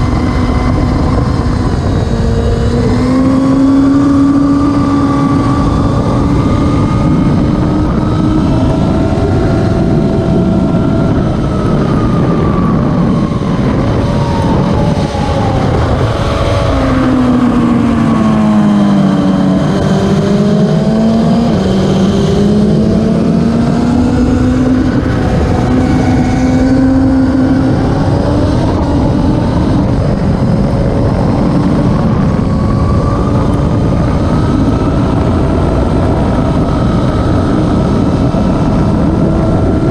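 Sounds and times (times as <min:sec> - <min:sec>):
racing motorcycle engines: 0:00.0 - 0:39.9.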